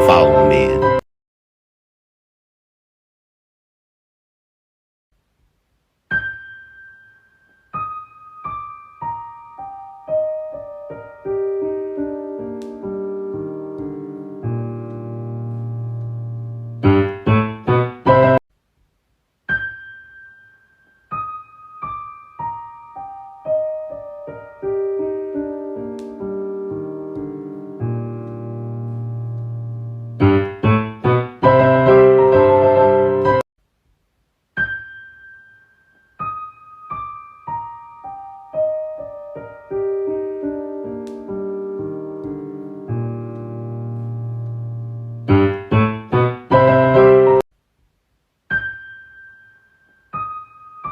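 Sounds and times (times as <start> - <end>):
solo piano: 0.0 - 1.0, 6.1 - 18.4, 19.5 - 33.5, 34.6 - 47.5, 48.4 - 50.9.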